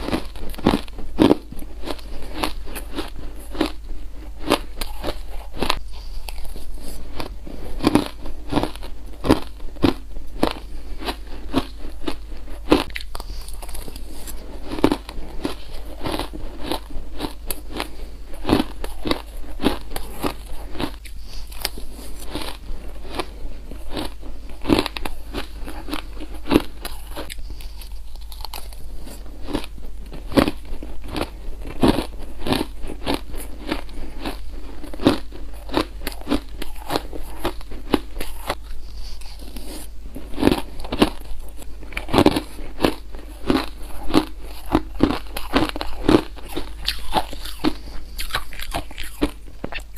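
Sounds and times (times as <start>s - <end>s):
chewing crunchy shaved ice: 0.0s - 49.9s.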